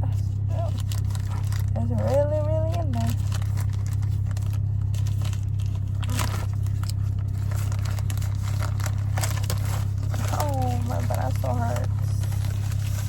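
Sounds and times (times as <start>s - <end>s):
low hum: 0.0s - 13.0s
packaging crinkling and tearing: 0.5s - 13.0s.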